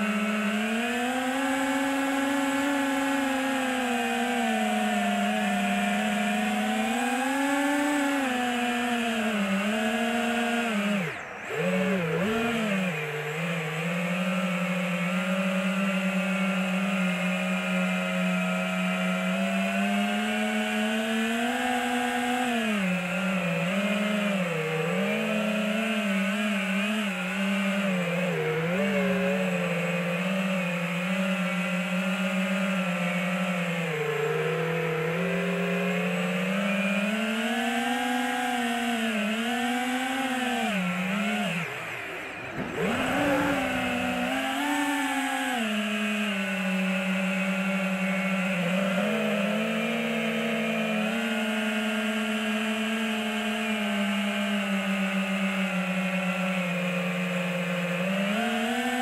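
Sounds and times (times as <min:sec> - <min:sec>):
quadcopter propeller whine: 0:00.0 - 0:59.0.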